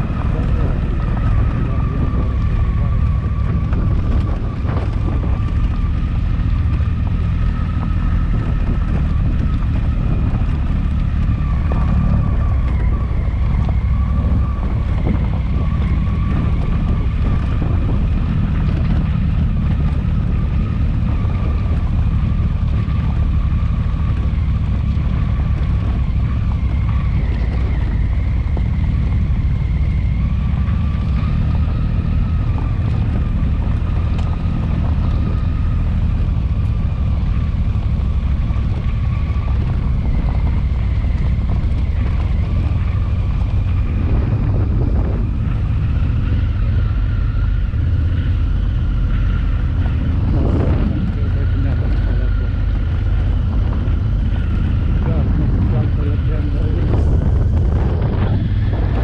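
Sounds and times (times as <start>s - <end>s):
motorcycle engine droning: 0.0s - 59.0s
wind rumble on microphone: 0.0s - 59.0s.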